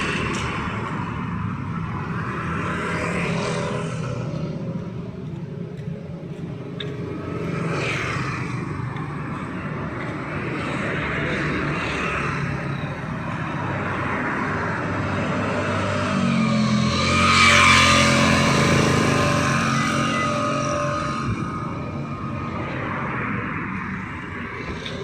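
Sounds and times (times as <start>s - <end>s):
vehicles passing by: 0.0s - 25.0s.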